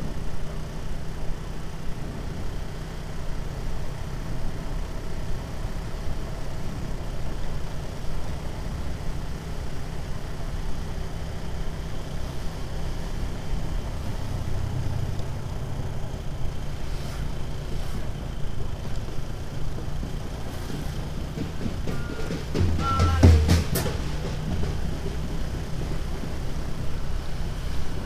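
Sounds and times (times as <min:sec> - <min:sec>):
motorcycle riding: 0:00.0 - 0:28.0.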